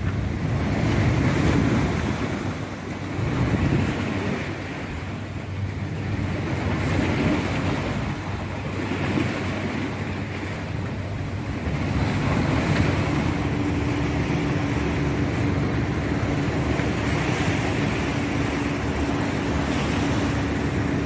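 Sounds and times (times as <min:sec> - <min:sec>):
surf washing against breakwater: 0:00.0 - 0:21.0
wind buffeting microphone: 0:00.0 - 0:21.0.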